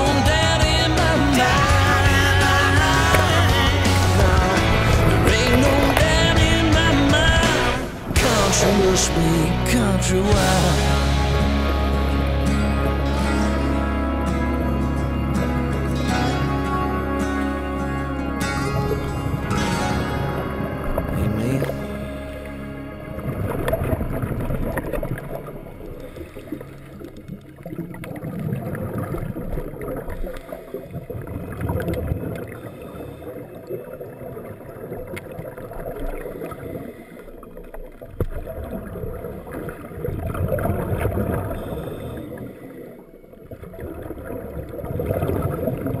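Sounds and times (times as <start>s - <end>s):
muffled underwater gurgling: 0.0s - 46.0s.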